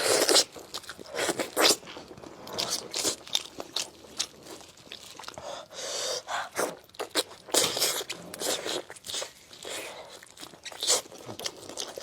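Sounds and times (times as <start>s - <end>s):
wet chewing and slurping: 0.0s - 12.0s.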